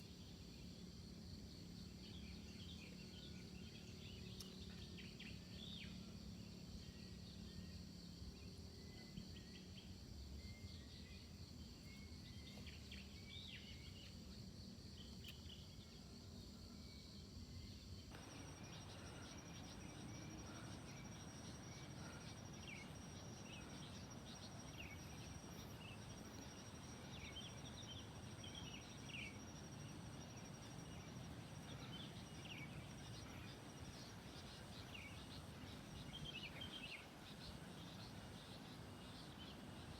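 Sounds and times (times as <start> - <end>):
insect droning: 0.0 - 39.9.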